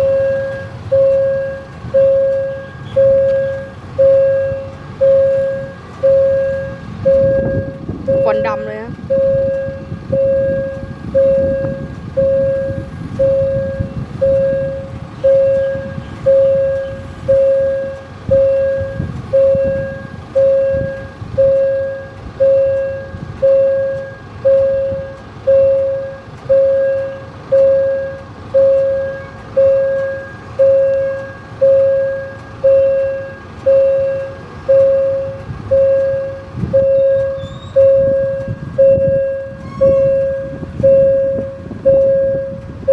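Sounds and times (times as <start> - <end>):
crossing warning bell ringing: 0.0 - 42.9
diesel locomotive rumble: 0.0 - 42.9.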